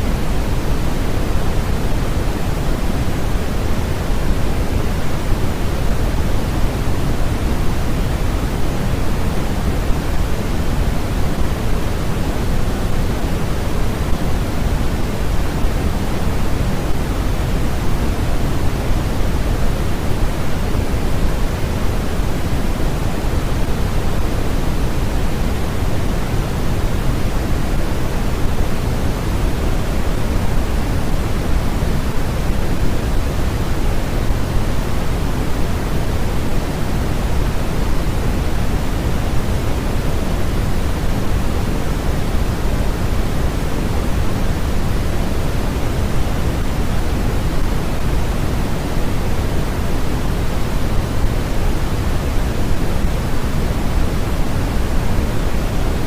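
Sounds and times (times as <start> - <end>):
generated pink noise: 0.0 - 56.0.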